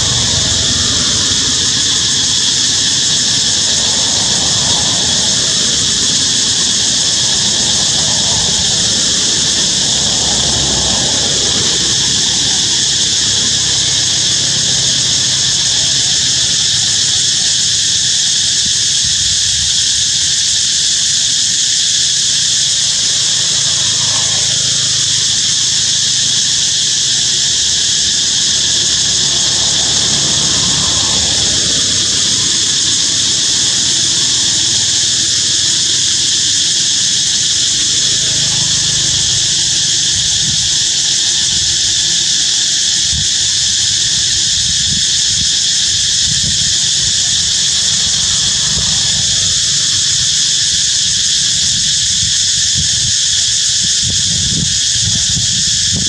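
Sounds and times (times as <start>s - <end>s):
forest insects droning: 0.0s - 56.0s.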